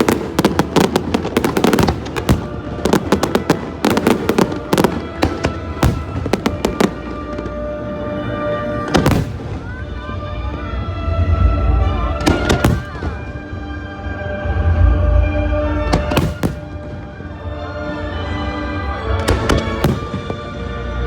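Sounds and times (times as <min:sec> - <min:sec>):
background music: 0:00.0 - 0:21.0
fireworks crackling and banging: 0:00.0 - 0:21.0.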